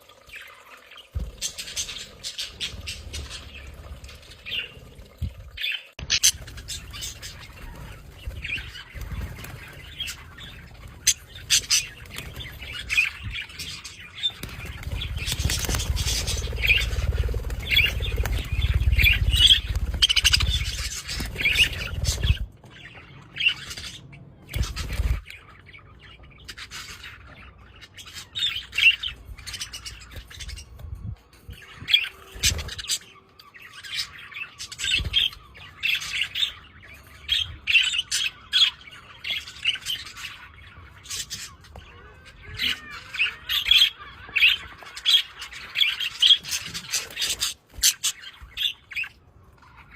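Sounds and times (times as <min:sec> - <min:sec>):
budgerigars chirping and squawking: 0:00.1 - 0:49.9.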